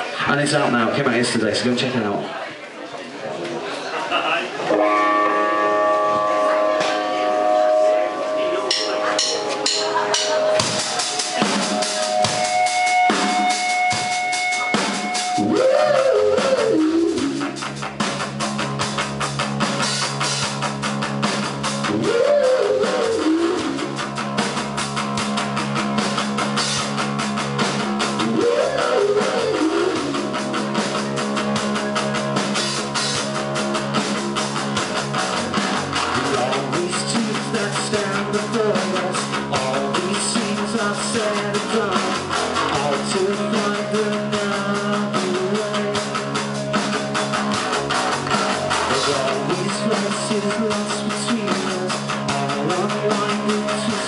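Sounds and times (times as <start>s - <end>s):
live rock band playing: 4.5s - 54.0s.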